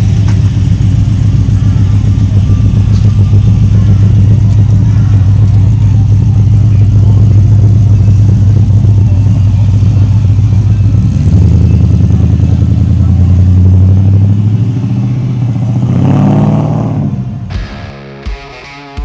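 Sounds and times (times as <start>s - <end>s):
car engine running at low revs: 0.0s - 17.5s.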